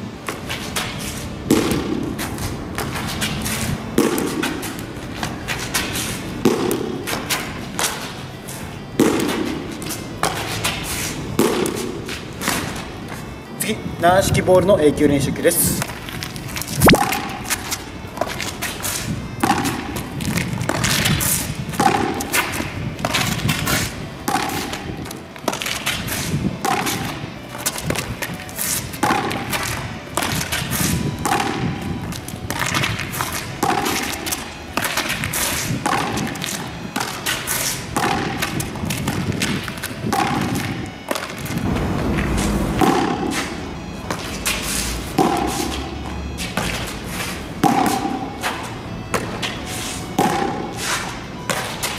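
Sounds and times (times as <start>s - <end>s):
background music with steady beat: 0.0s - 51.9s
ball bouncing on pavement: 0.3s - 8.2s, 9.0s - 13.0s, 15.8s - 46.9s, 47.6s - 49.6s, 50.2s - 50.8s.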